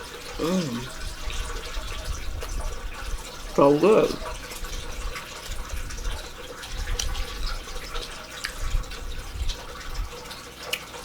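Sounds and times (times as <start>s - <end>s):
trickle of running water: 0.0s - 11.0s.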